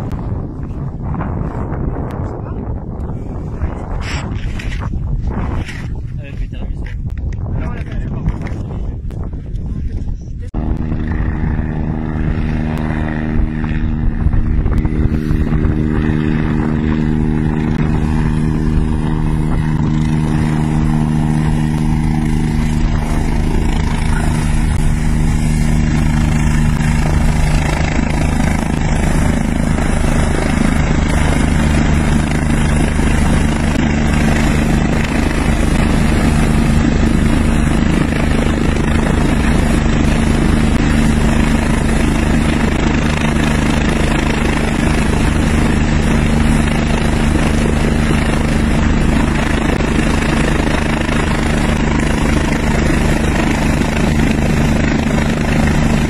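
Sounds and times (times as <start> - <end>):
helicopter rotor and engines: 0.0 - 56.0.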